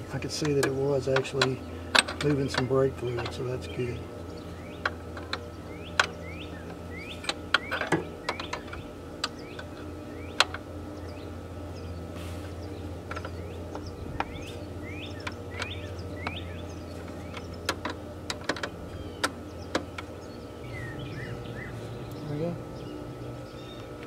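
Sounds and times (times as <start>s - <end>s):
steady low hum: 0.0s - 24.0s
small birds chirping: 0.1s - 24.0s.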